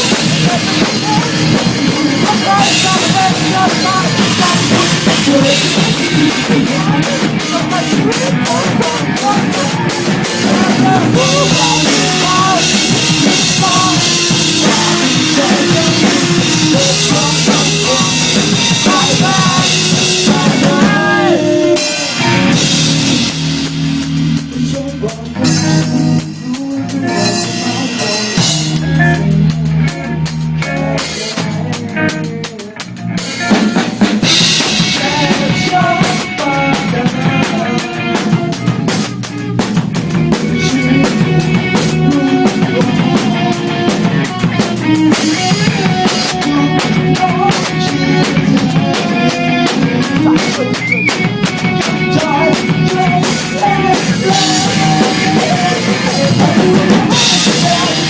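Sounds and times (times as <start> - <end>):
drum kit: 0.0 - 58.0
rock band playing live: 0.0 - 58.0.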